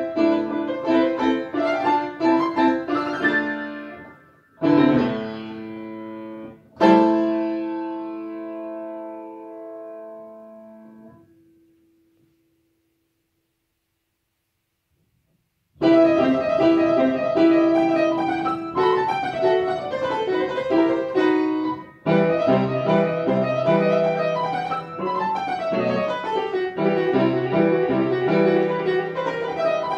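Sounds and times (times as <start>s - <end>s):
upright piano playing: 0.0s - 11.3s, 15.8s - 29.9s.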